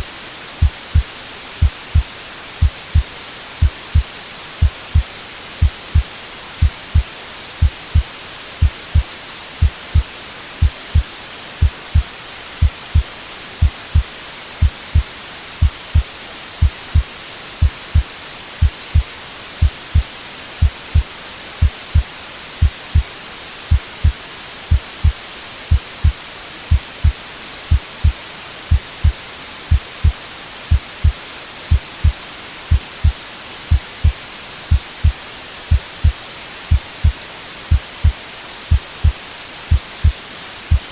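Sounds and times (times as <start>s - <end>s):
white noise hiss: 0.0s - 40.9s
heartbeat thumps: 0.6s - 23.1s, 23.7s - 40.9s.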